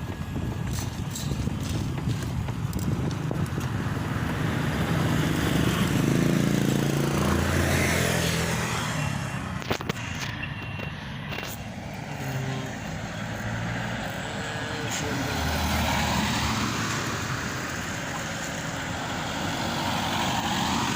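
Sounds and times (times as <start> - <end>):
vehicle passing by: 1.8 - 10.4, 11.0 - 20.9.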